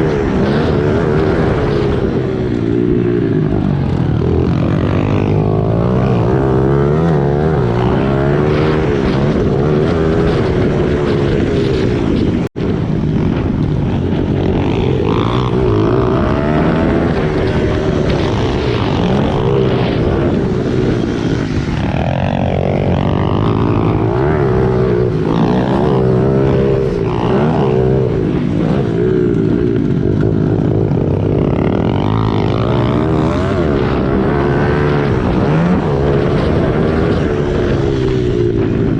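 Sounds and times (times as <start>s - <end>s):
motorbike engines revving: 0.0s - 38.9s.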